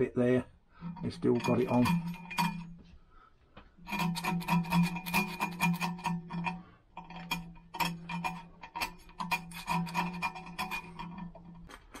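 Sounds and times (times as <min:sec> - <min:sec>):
blade scraping metal: 0:00.8 - 0:02.8, 0:03.8 - 0:11.7.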